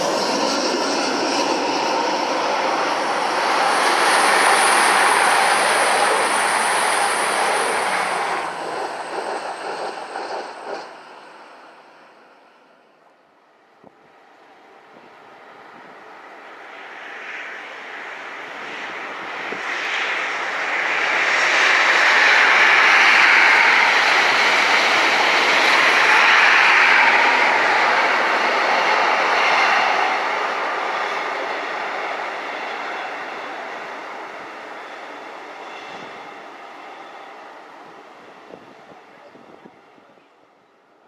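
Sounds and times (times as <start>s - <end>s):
passenger train passing: 0.0s - 41.0s.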